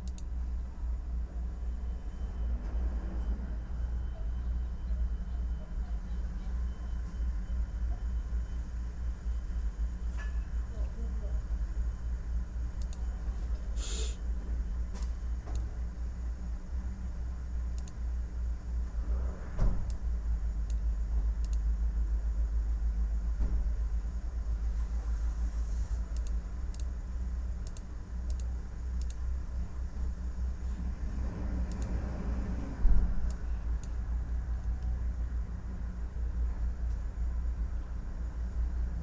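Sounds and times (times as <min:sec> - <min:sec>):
city traffic rumble: 0:00.0 - 0:39.0.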